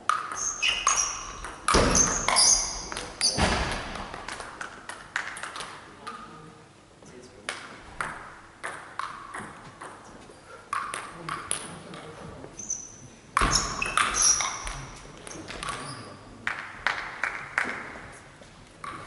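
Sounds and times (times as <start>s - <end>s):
table tennis balls hitting: 0.0s - 6.2s, 7.5s - 10.1s, 10.7s - 12.1s, 13.4s - 18.2s, 18.8s - 19.0s.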